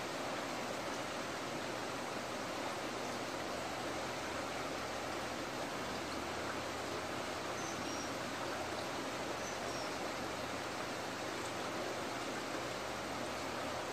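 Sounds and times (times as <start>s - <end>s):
water rushing from a pipe: 0.0s - 13.9s.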